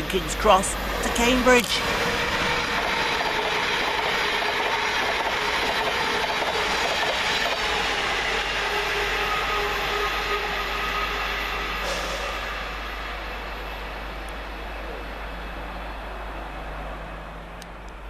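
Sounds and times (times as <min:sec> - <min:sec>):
train wheels rolling on rail: 0:00.0 - 0:18.0.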